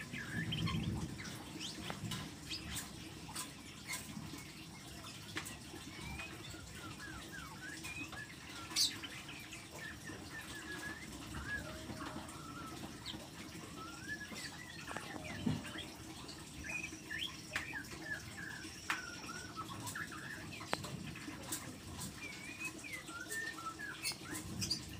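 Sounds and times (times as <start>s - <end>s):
songbird chirping: 0.0s - 24.9s.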